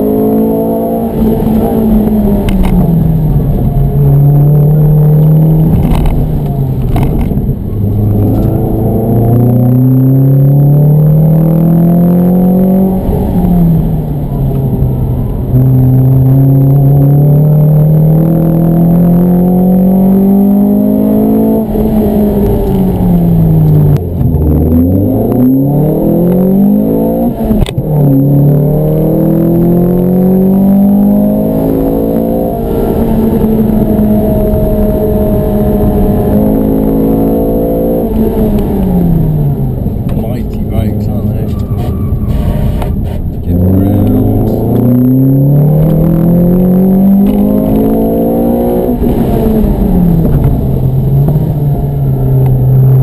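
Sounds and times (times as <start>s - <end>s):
car engine accelerating through gears: 0.0s - 53.0s.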